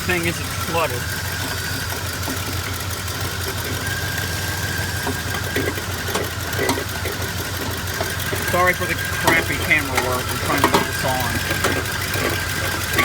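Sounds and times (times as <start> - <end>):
car engine idling rough: 0.0 - 13.0.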